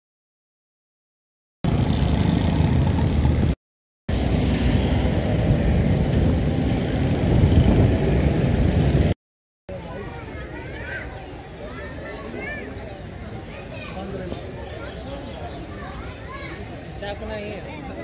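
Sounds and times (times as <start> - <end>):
road traffic rumble: 1.6 - 18.0.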